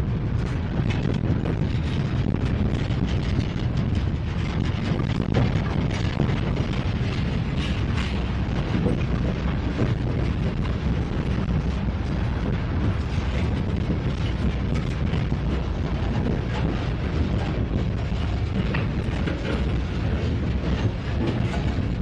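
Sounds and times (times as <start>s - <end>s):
freight cars rolling on rails: 0.0s - 22.0s.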